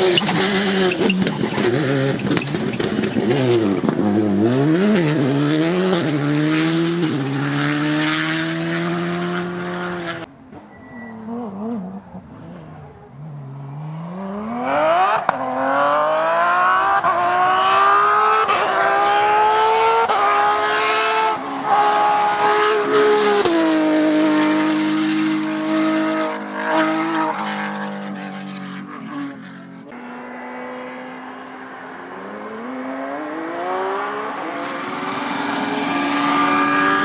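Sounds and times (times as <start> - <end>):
rally car engine at full throttle: 0.0 - 37.0.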